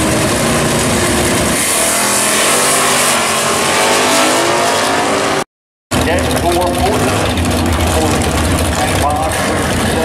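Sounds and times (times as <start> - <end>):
drag racing cars accelerating: 0.0 - 10.0
engines revving: 0.0 - 10.0.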